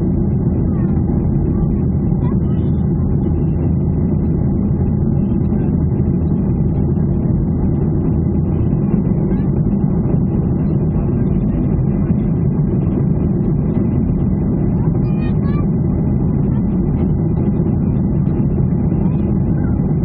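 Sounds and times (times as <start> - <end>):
jet engines low rumble: 0.0 - 20.0.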